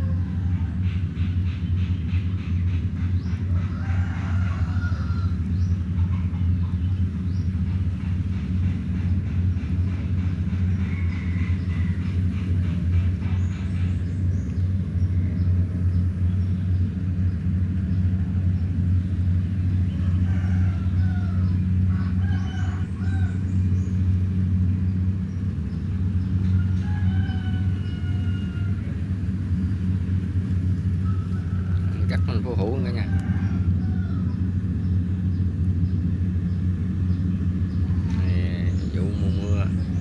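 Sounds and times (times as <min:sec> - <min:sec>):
harvester engine droning: 0:00.0 - 0:40.0.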